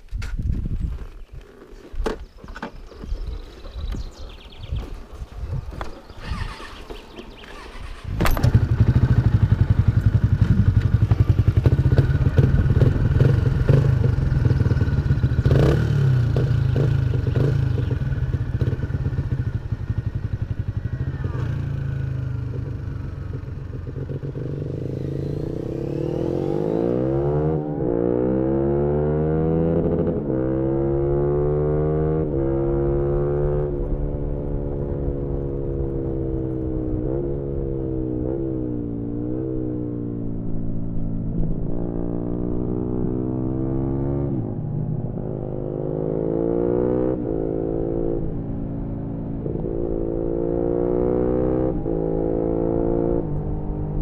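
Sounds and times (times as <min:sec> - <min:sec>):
motorcycle engine revving: 0:05.6 - 0:54.0.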